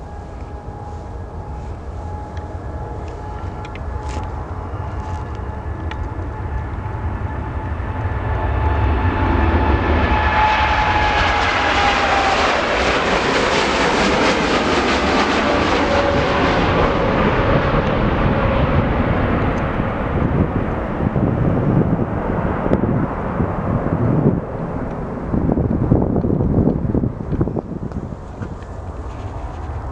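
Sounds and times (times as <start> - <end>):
jet airliner passing: 0.0 - 29.9
jet engine whine: 0.0 - 29.9.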